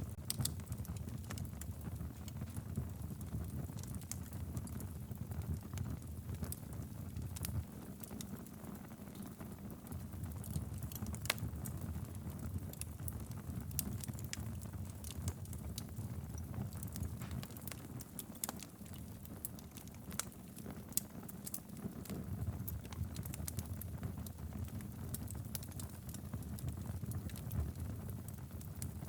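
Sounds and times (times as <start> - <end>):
fireplace flames rumbling: 0.0 - 29.0
wood crackling and popping: 0.0 - 29.0.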